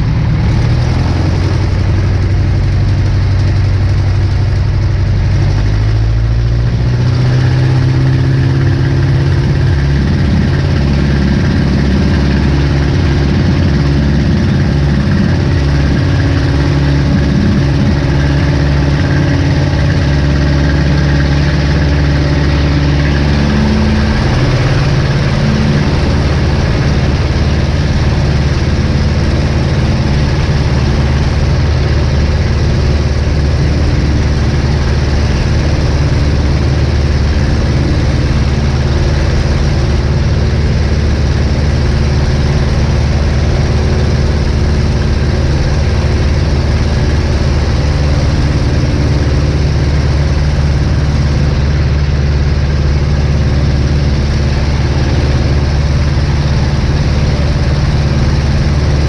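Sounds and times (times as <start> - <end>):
airplane engine and propeller: 0.0 - 59.0.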